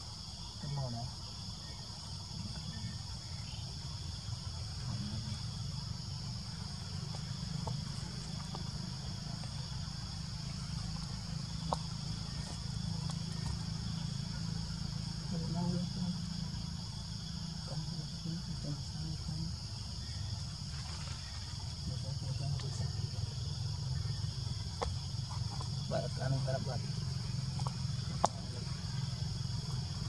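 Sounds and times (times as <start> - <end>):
chorus of forest insects: 0.0 - 30.0.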